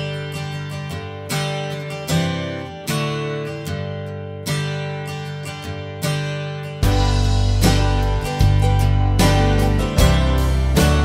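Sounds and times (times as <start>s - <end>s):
strummed acoustic guitar chords: 0.0s - 11.0s.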